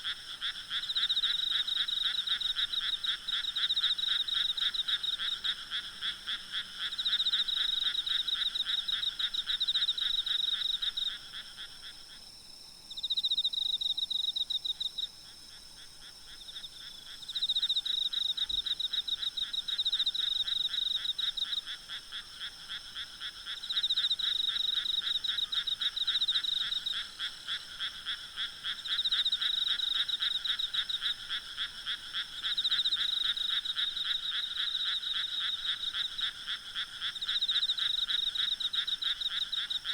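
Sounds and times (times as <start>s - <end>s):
frogs croaking: 0.0s - 12.2s, 12.9s - 39.9s
high drone of insects: 0.0s - 39.9s.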